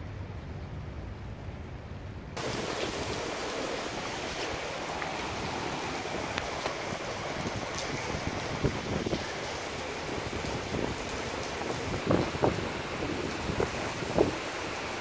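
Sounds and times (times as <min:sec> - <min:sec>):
heavy rain hissing: 0:02.4 - 0:15.0.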